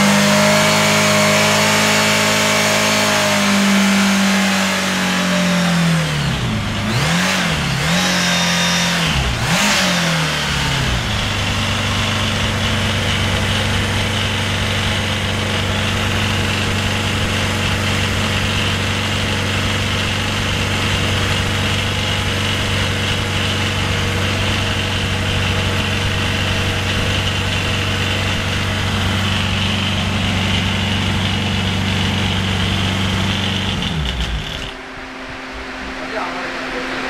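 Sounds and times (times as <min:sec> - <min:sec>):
steady high whine: 0:05.7 - 0:37.0
aircraft engine running: 0:05.9 - 0:37.0.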